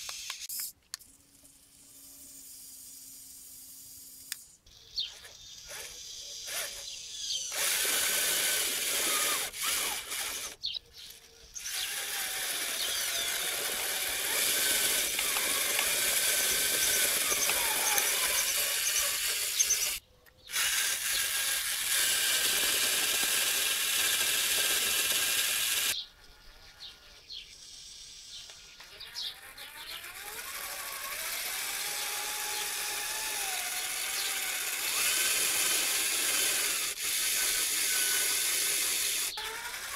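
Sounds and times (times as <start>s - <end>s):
toy tractor motor whining: 0.0s - 39.9s.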